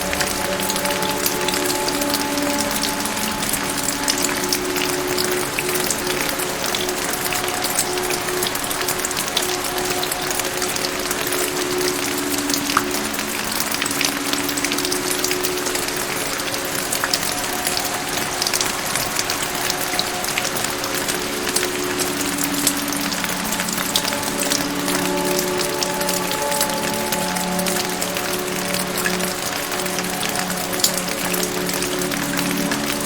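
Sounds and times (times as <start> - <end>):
rain pattering: 0.0 - 33.0
soft music with held notes: 0.0 - 33.0.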